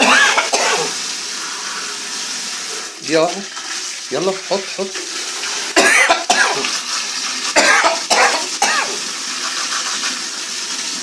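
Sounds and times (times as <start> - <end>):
loud water bursts: 0.0 - 10.0
water running from hose: 0.0 - 11.0.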